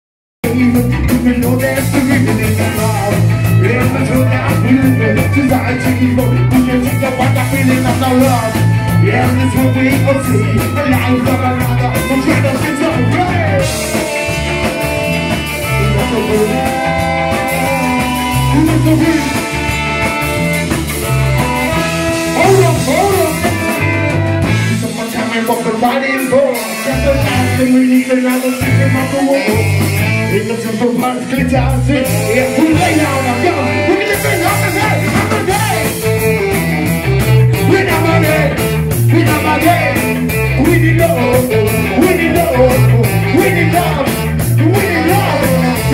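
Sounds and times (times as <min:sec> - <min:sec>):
live band playing up-tempo music: 0:00.4 - 0:45.9
person singing: 0:00.4 - 0:45.9.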